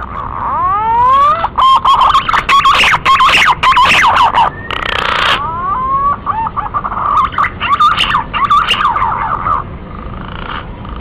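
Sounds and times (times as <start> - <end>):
pigeon whistled song: 0.4 - 9.6.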